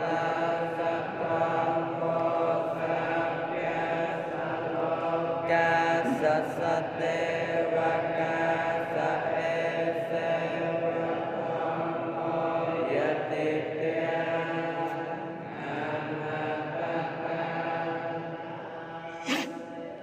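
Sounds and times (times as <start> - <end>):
droning chant-like voices: 0.0 - 20.0.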